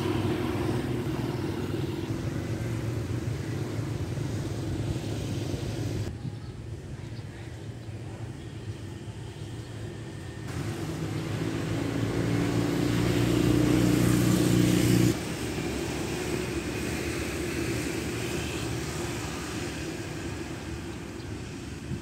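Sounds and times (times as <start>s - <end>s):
engine hum: 0.0s - 6.1s, 9.4s - 22.0s
street traffic: 0.0s - 22.0s.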